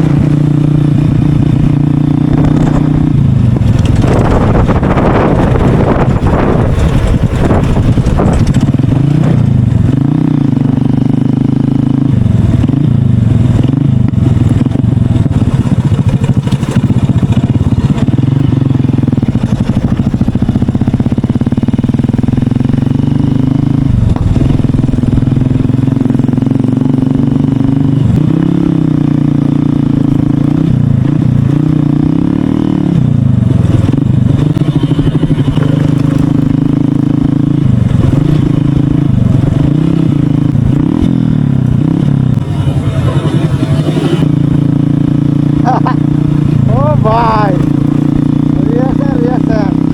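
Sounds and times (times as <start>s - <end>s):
motorcycle with loud exhaust: 0.0s - 49.9s.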